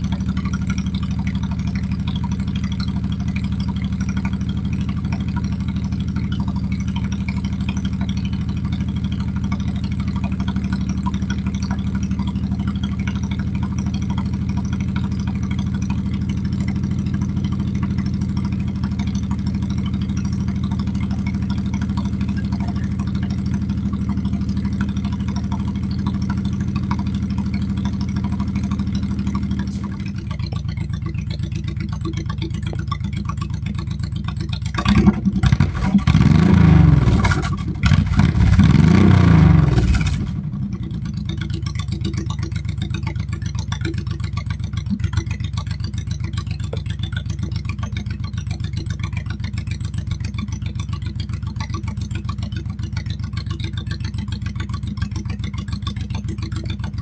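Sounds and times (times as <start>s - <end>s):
engine running and revving: 0.0s - 57.0s.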